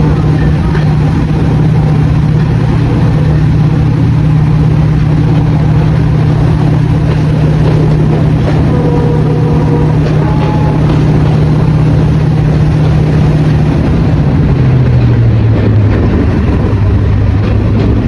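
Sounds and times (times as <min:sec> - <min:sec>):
diesel locomotive engines droning: 0:00.0 - 0:18.0.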